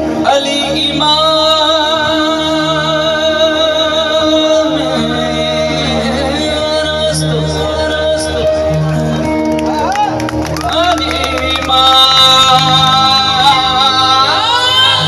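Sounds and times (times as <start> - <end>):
man singing a long note: 0.0 - 9.2, 10.6 - 15.0.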